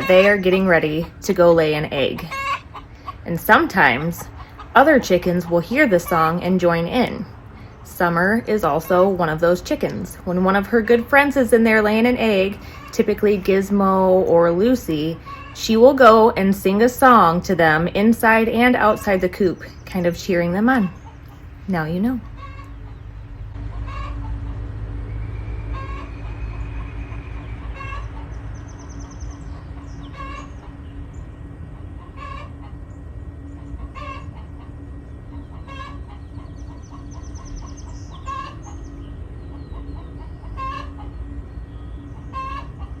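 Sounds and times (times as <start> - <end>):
hen calling: 0.0 - 24.6, 25.7 - 32.8, 33.5 - 43.0
steady low hum: 0.0 - 43.0.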